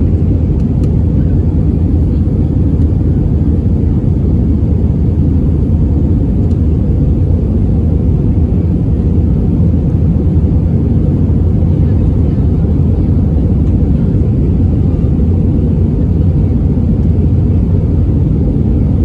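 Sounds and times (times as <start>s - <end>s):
aircraft engines rumbling: 0.0s - 19.0s.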